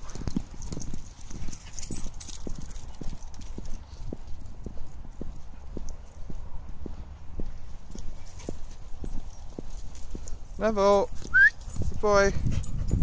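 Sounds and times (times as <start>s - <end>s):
footsteps walking: 0.0s - 12.0s.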